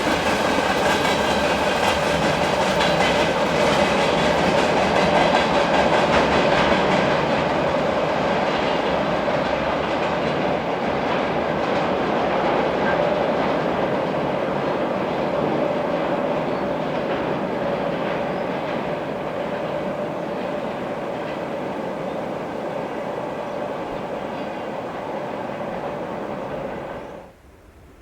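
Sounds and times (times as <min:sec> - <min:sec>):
wheels clicking over rail joints: 0:00.0 - 0:22.5
freight wagons rumbling on rails: 0:00.0 - 0:28.0.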